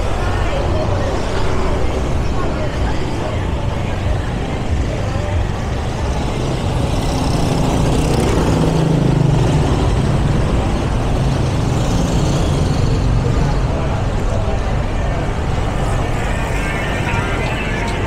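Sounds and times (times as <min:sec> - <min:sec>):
steady traffic rumble: 0:00.0 - 0:18.0.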